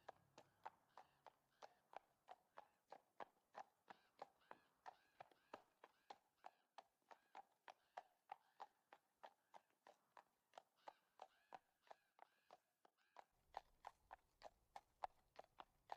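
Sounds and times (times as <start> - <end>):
horse hooves clip-clopping: 0.0 - 15.9.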